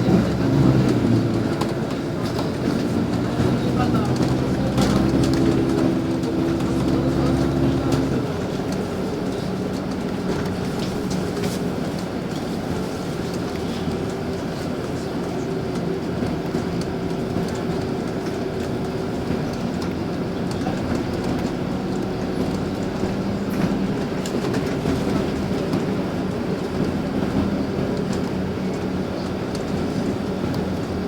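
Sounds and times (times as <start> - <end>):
bus drivetrain hum: 0.0 - 31.0
road noise: 0.0 - 31.0.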